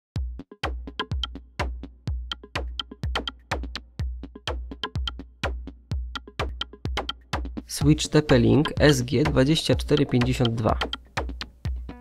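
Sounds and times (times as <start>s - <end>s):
electronic drum machine beat: 0.2s - 12.0s.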